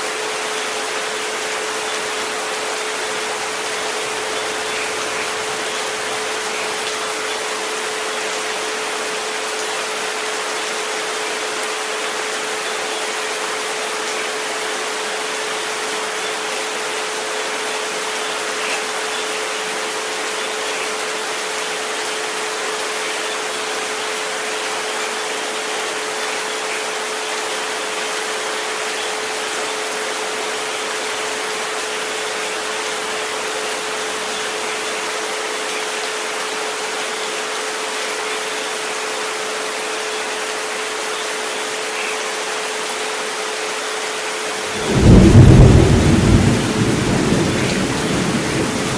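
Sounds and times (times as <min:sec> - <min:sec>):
rain hiss: 0:00.0 - 0:48.9.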